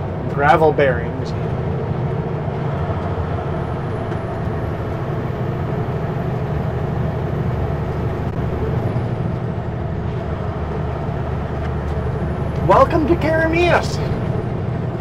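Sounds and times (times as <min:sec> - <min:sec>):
diesel engine hum: 0:00.0 - 0:15.0
road noise: 0:00.0 - 0:15.0.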